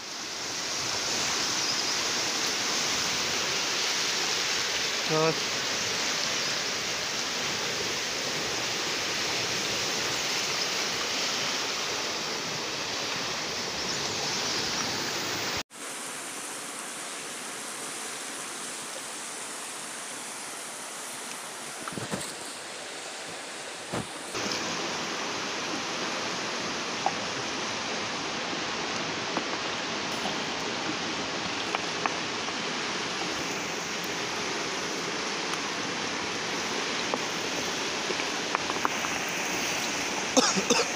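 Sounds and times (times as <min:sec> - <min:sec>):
fast-flowing river rushing: 0:00.0 - 0:40.9.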